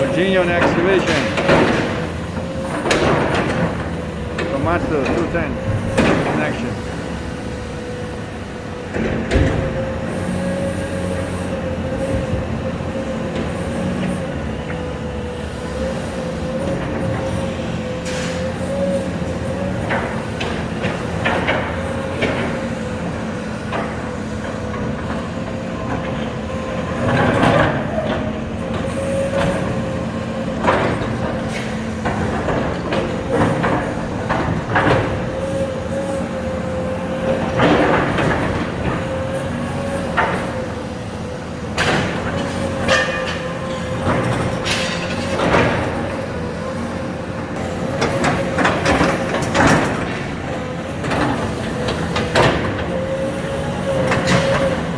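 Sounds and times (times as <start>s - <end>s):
excavator engine and hydraulics whine: 0.0s - 54.9s.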